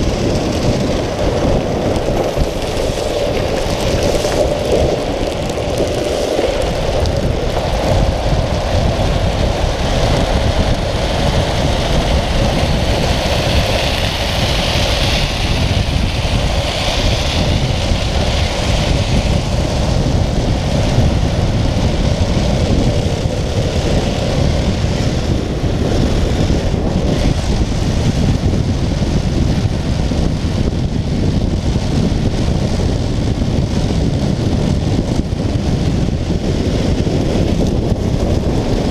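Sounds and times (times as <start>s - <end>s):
wheels rolling on asphalt: 0.0s - 38.9s
wind rushing over microphone: 0.0s - 38.9s.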